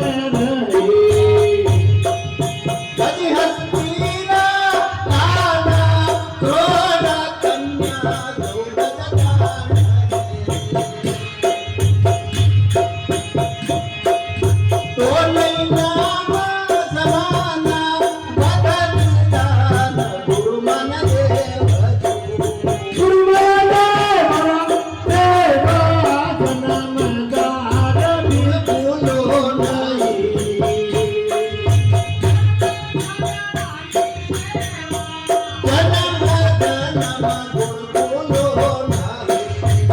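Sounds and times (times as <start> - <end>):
person singing: 0.0 - 10.2, 15.0 - 39.9
jingling hand percussion: 0.0 - 39.9.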